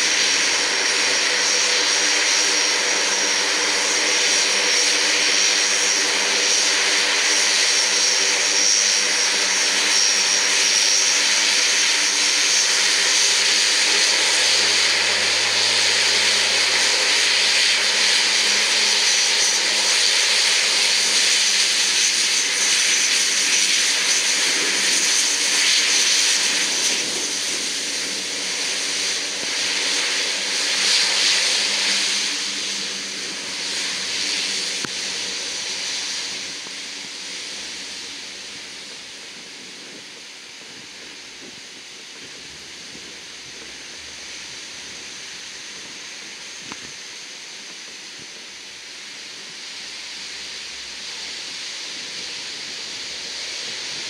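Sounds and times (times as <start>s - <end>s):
turboprop aircraft engines: 0.0s - 54.0s.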